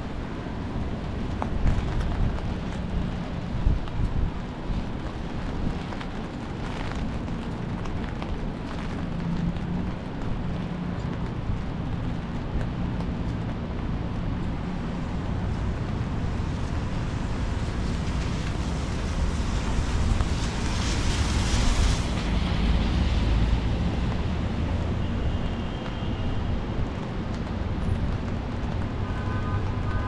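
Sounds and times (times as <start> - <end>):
traffic on wet roads: 0.0 - 30.0
wind rumbling on microphone: 0.0 - 30.0.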